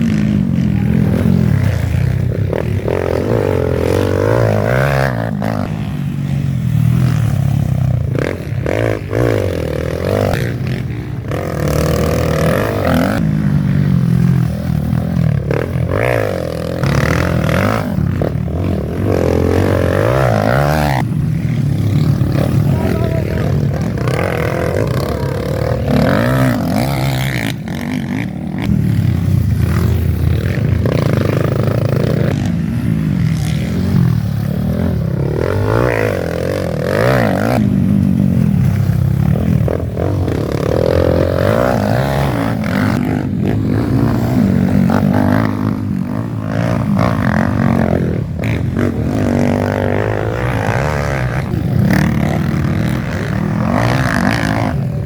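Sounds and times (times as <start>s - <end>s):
motocross bikes revving: 0.0s - 55.0s.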